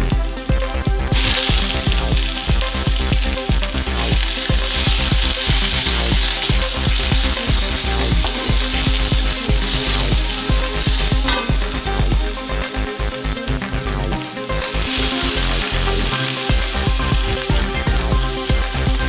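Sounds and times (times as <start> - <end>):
background music: 0.0 - 19.0
oil sizzling in a wok: 1.1 - 19.0
spatula stir-frying: 1.1 - 19.0.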